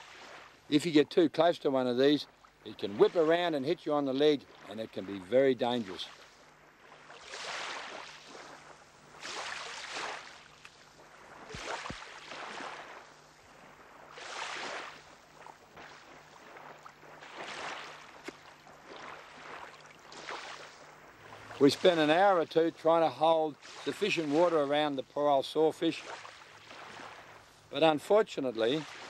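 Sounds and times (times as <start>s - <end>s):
low steady hum: 0.0s - 29.0s
water sloshing and splashing: 2.2s - 29.0s.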